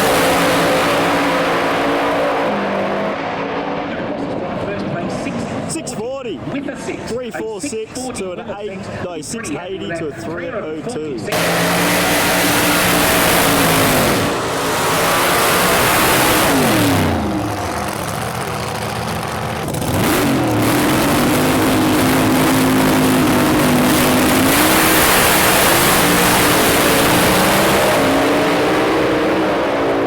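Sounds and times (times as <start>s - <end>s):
drag racing car engine revving: 0.0s - 7.1s, 11.3s - 30.0s.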